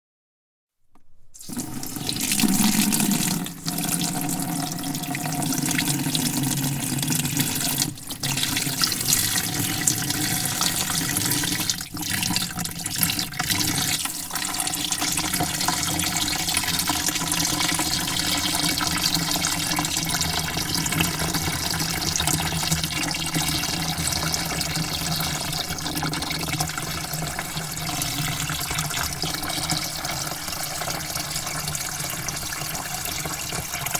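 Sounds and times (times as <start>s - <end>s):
water spraying into a bucket: 1.4s - 33.9s.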